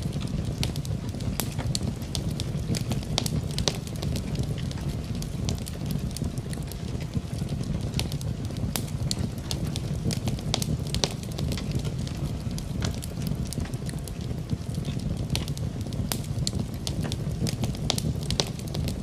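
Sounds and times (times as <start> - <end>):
rain hissing: 0.0 - 19.0
wood fire crackling: 0.0 - 19.0.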